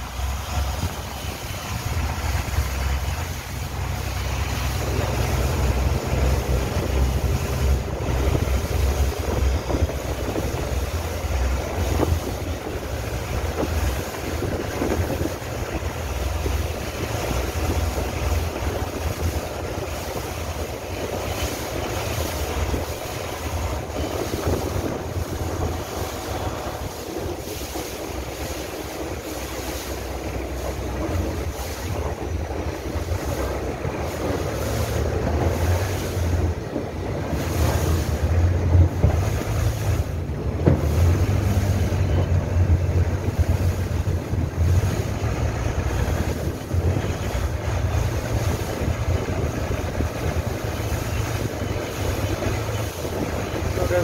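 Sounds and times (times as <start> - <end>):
boat engine running: 0.0 - 54.0
water washing along hull: 0.0 - 54.0
wind buffeting microphone: 0.0 - 54.0.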